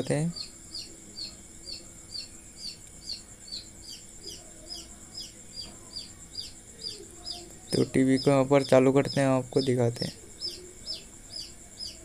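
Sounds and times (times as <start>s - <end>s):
faint high whine: 0.0s - 12.0s
small bird chirping: 0.0s - 12.0s.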